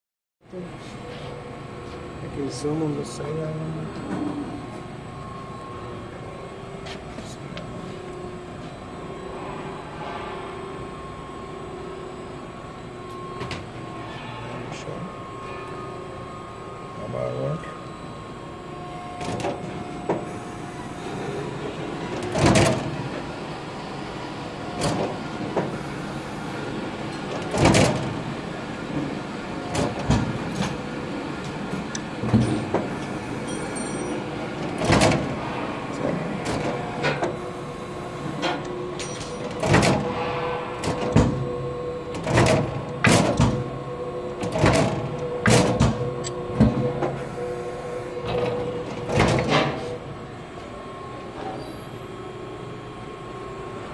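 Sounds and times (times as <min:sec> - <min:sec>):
steady machine hum: 0:00.4 - 0:53.9.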